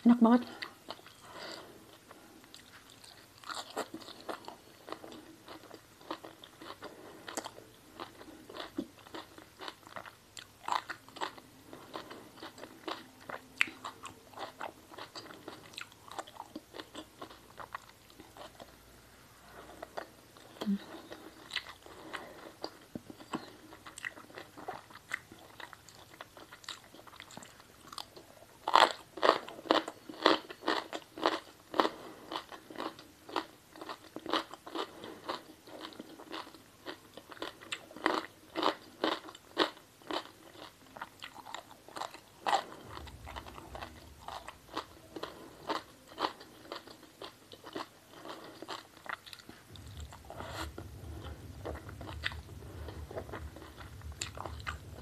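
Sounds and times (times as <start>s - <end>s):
person chewing crunchy food: 0.5s - 55.0s.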